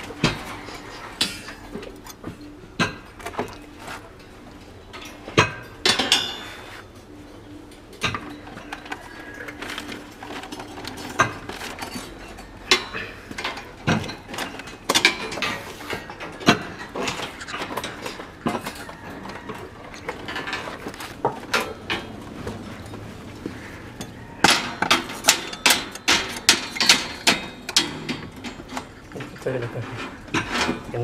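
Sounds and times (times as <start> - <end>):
metal rebar and wire clinking: 0.0 - 6.6, 7.4 - 22.9, 24.0 - 31.0.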